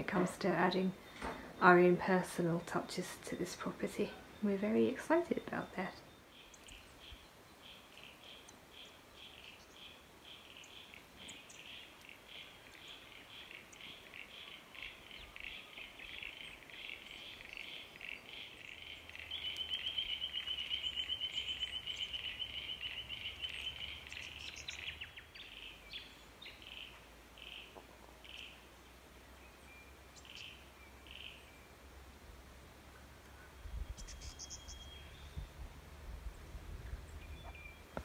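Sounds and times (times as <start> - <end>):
birds chirping and trilling: 0.0 - 31.8, 33.3 - 35.7, 36.3 - 38.0.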